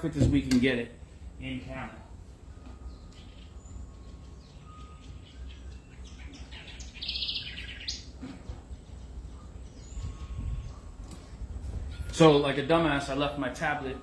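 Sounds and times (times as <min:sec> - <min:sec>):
birds chirping and calling: 0:01.0 - 0:14.0.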